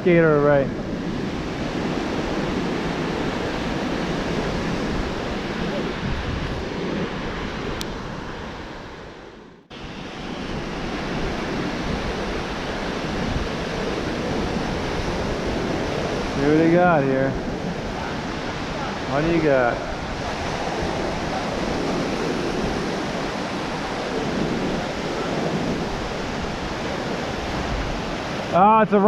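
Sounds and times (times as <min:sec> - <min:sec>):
ocean surf breaking: 0:00.0 - 0:29.0
wind on microphone: 0:00.0 - 0:29.0.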